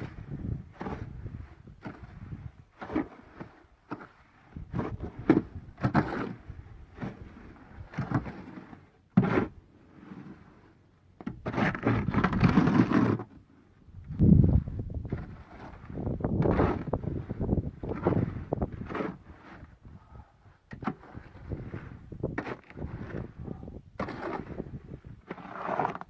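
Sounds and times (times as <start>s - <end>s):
hand tools scraping wet concrete: 0.0s - 13.4s, 15.0s - 19.9s, 20.7s - 26.0s.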